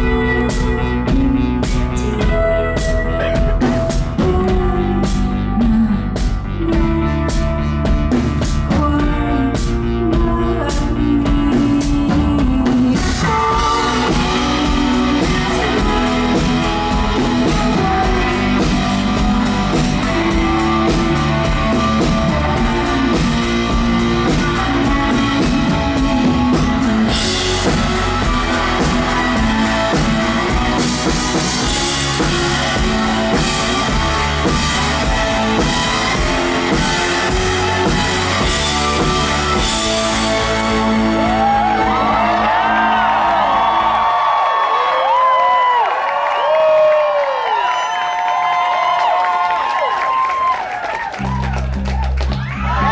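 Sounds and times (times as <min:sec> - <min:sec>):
live rock band playing: 0:00.0 - 0:44.5.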